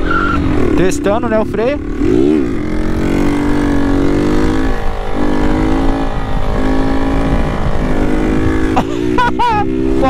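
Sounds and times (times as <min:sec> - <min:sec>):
motorcycle engine running loud: 0:00.0 - 0:10.0.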